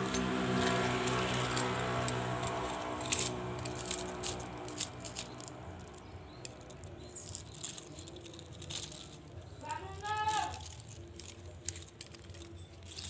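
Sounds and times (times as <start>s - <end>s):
pipe pieces clicking and tapping: 0.0s - 13.0s.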